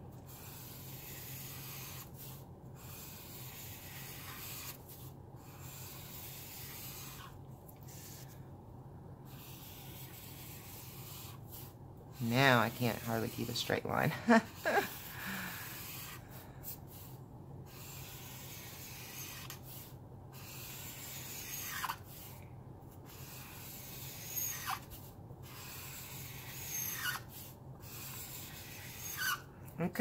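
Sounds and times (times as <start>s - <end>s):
marker scratching on paper: 0.1s - 8.4s, 9.2s - 13.8s, 14.5s - 29.5s.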